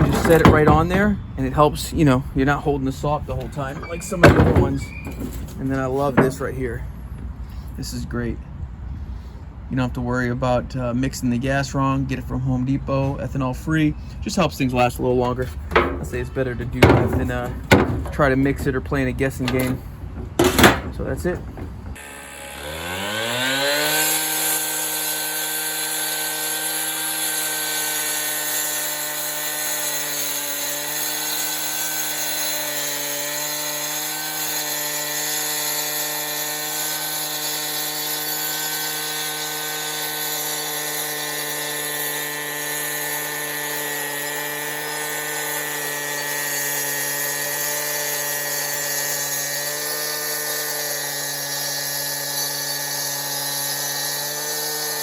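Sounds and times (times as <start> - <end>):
concrete cut-off saw revving: 0.0 - 1.6, 3.3 - 6.7, 14.5 - 55.0.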